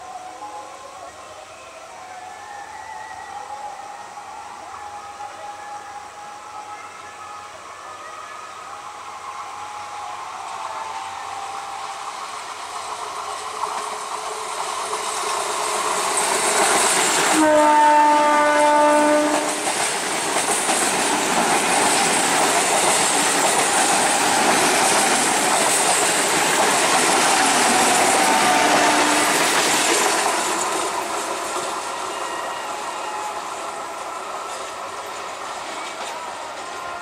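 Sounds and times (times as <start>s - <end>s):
train passing at speed: 0.0s - 37.0s.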